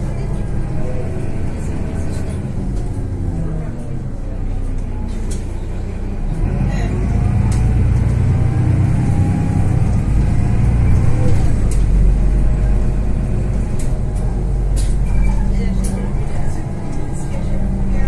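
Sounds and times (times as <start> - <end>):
city bus diesel engine running: 0.0 - 18.0.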